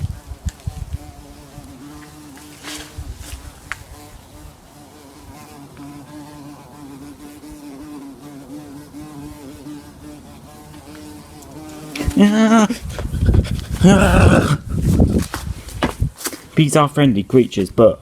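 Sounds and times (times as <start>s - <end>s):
bee buzzing in flight: 0.0s - 16.2s.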